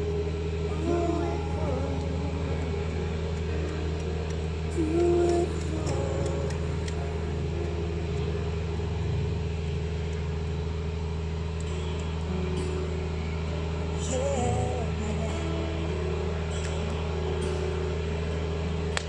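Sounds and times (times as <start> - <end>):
campfire crackling: 0.0 - 19.0
engine humming: 0.0 - 19.0.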